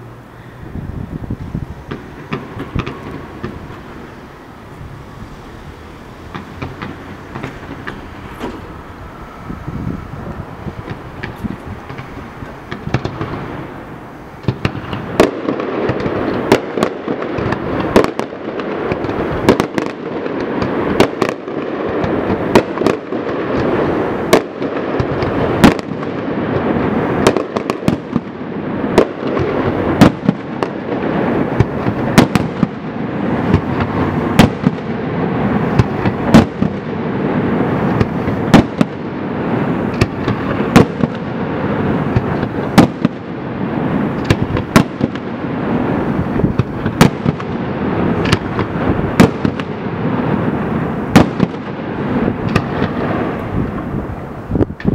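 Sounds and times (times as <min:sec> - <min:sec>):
continuous rumble: 0:00.0 - 0:54.9
fireworks bangs: 0:00.0 - 0:54.9.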